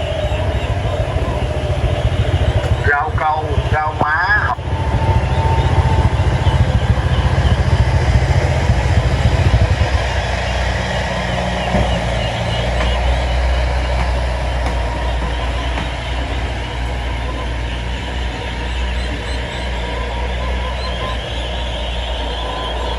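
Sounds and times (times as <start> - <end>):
engine running: 0.0 - 22.9.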